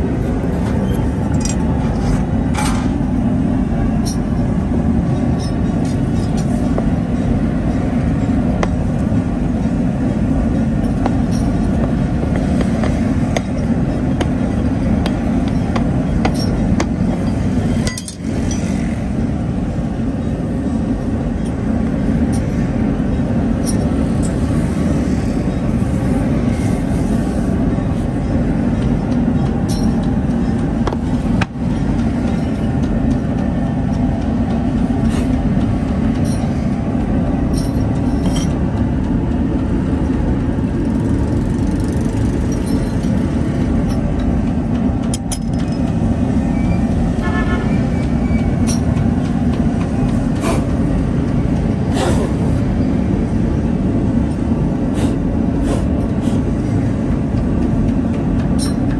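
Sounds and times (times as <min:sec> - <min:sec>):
steady low rumble: 0:00.0 - 0:58.9.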